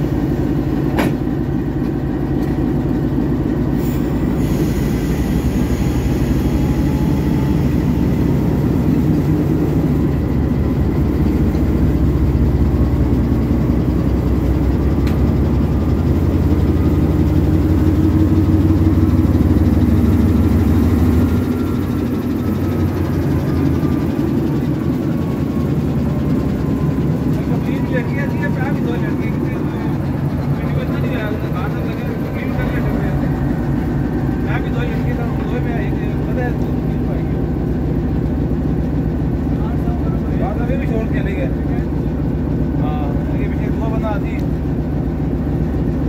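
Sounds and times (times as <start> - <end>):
diesel locomotive engine idling: 0.0 - 46.0.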